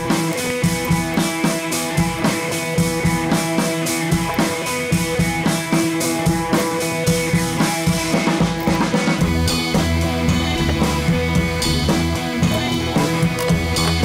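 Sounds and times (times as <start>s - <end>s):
background music with drum beat: 0.0s - 14.0s.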